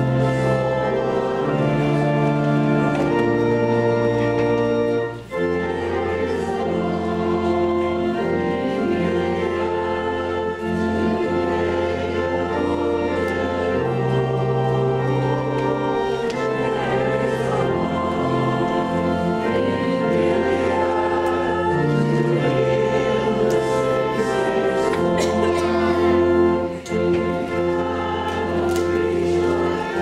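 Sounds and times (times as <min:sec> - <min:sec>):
church organ playing a hymn: 0:00.0 - 0:30.0.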